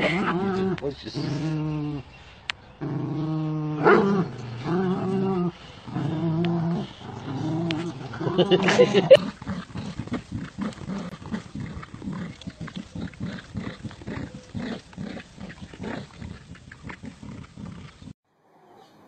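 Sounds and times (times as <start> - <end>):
dogs play-growling: 0.0 - 2.1, 2.7 - 18.2.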